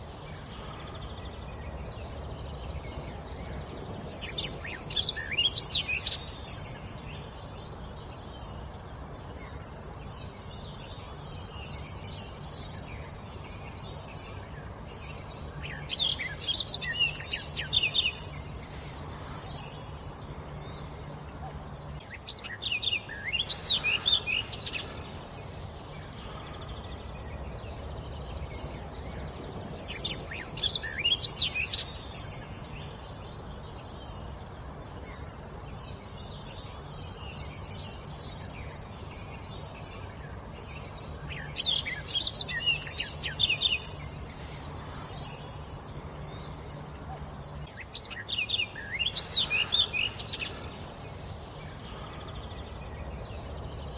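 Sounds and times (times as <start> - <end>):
songbird singing: 0.0 - 53.9
steady background hiss: 0.0 - 53.9.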